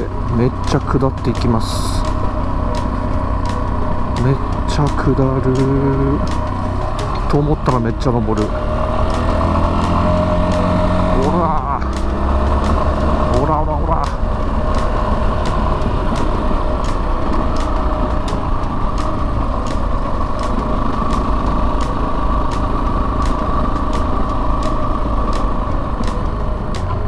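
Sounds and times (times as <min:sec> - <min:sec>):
low rumble: 0:00.0 - 0:27.0
motorcycle engine running under load: 0:00.0 - 0:27.0.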